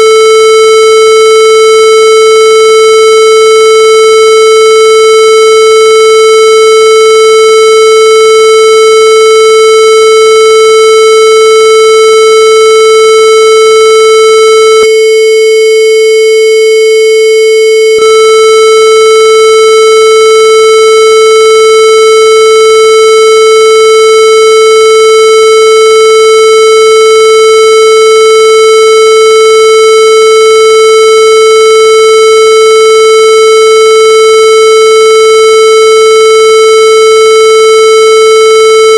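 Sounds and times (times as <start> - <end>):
harsh electronic buzzer tone: 0.0 - 38.9.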